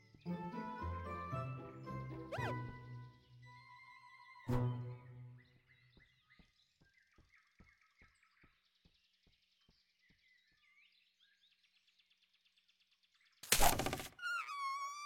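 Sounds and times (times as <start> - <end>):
faint bird chirps: 2.3 - 15.0.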